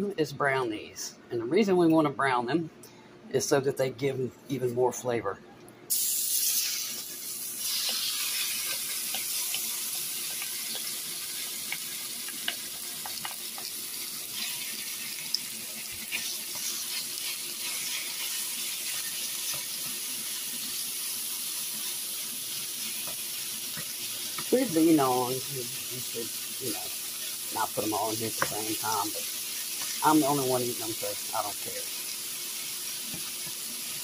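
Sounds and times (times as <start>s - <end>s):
meat sizzling in oil: 5.9s - 34.0s.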